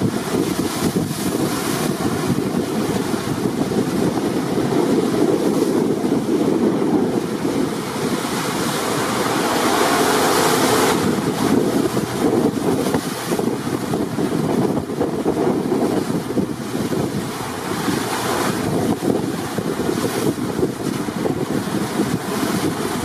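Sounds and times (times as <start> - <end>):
gale wind buffeting microphone: 0.0 - 23.0
waves and surf rushing: 0.0 - 23.0.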